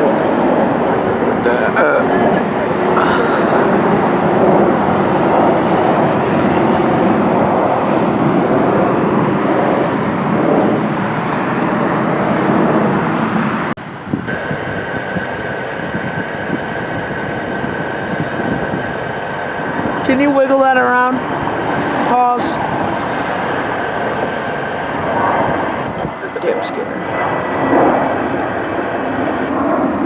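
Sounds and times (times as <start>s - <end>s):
jet airliner engine noise: 0.0s - 30.0s
low rumble: 0.0s - 30.0s
steady high whine: 0.0s - 30.0s.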